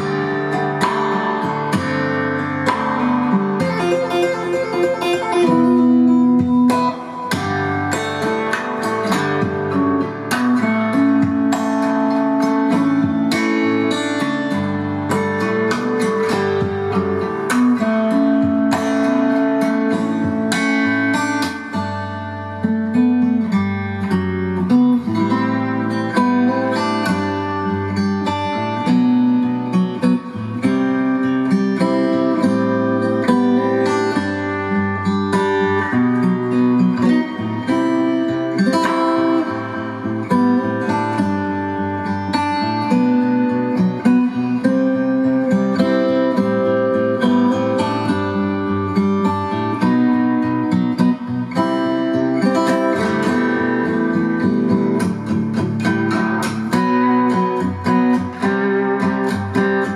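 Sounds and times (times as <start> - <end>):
acoustic guitar music: 0.0 - 59.9.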